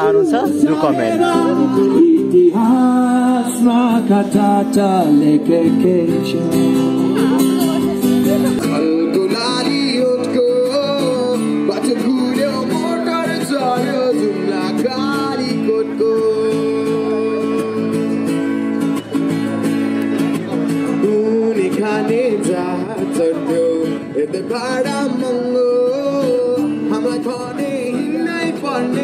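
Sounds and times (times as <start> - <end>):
man singing into a microphone: 0.0 - 18.6, 20.7 - 29.0
acoustic guitar strumming: 0.0 - 29.0.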